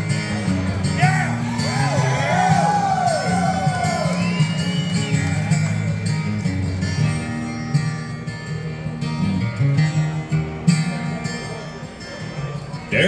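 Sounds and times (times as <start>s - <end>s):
acoustic guitar strumming and picking: 0.0s - 13.0s.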